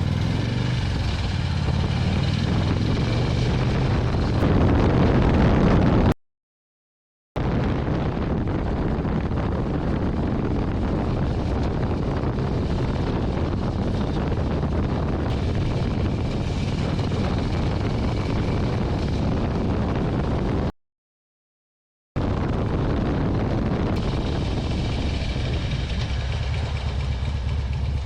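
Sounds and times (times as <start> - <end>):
motorcycle engine: 0.0 - 6.1, 7.4 - 20.7, 22.2 - 28.0
road noise: 0.0 - 6.2, 7.4 - 20.7, 22.2 - 28.0
wind rushing over microphone: 0.0 - 6.2, 7.4 - 20.7, 22.2 - 28.0.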